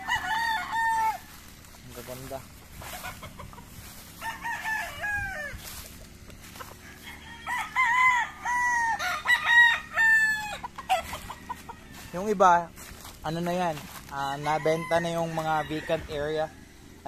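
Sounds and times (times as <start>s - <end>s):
rooster crowing: 0.0s - 12.6s, 14.0s - 16.8s.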